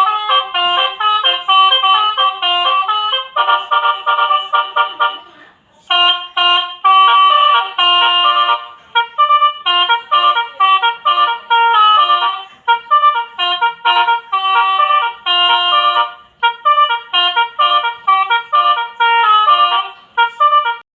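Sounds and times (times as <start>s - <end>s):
musical horn playing melody: 0.0s - 20.9s.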